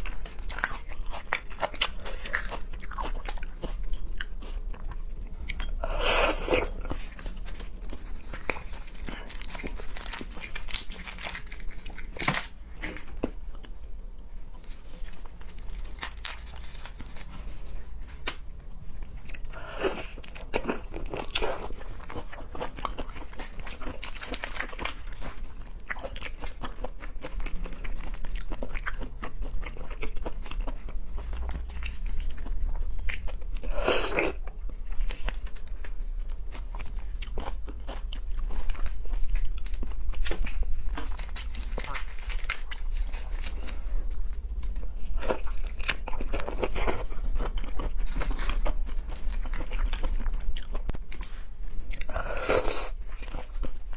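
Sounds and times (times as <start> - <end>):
chewing seafood: 0.0 - 53.9.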